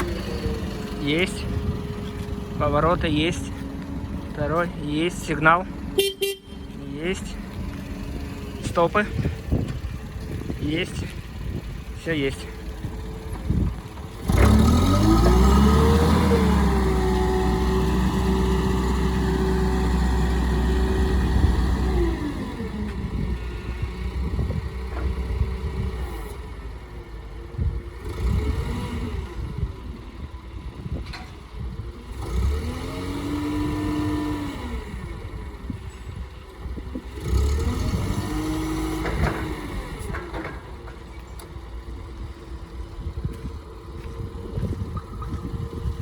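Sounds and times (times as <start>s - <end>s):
forklift engine revving: 0.0s - 46.0s.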